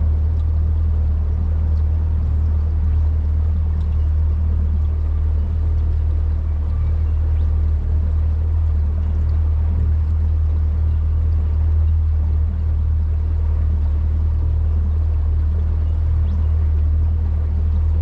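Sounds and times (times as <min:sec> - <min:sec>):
outboard motor drone: 0:00.0 - 0:18.0
water noise from hull: 0:00.0 - 0:18.0.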